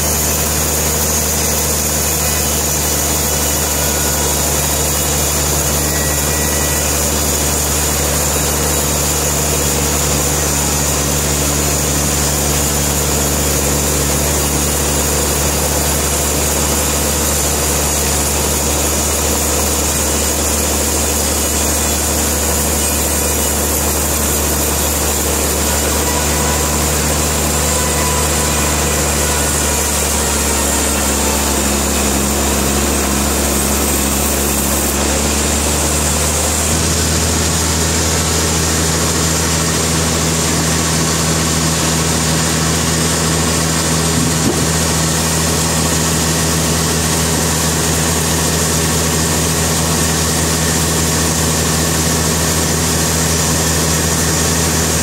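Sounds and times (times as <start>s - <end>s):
sawmill engine humming: 0.0s - 55.0s.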